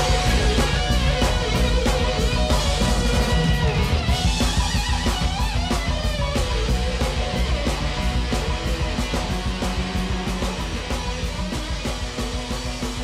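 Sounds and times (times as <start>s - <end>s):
electric guitar lead line: 0.0s - 13.0s
heavy bass: 0.0s - 13.0s
steady drum beat: 0.0s - 13.0s.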